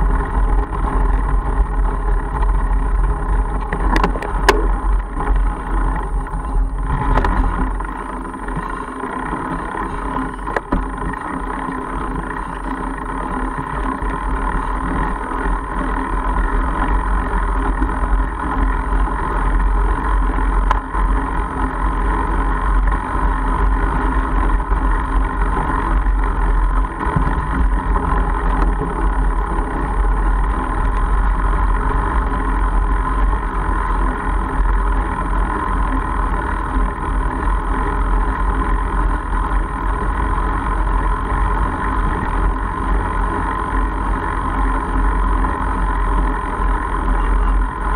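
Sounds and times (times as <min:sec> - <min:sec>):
bike rolling on gravel track: 0:00.0 - 0:47.9.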